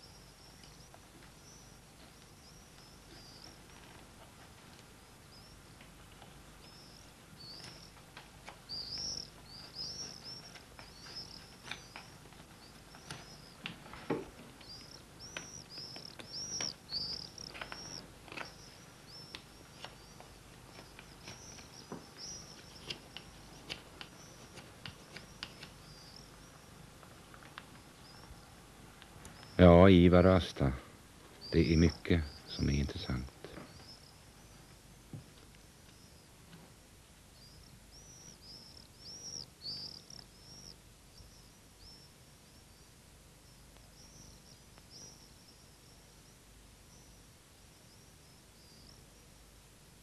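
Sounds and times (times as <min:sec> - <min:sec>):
small bird chirping: 0:00.0 - 0:36.5, 0:37.3 - 0:49.5.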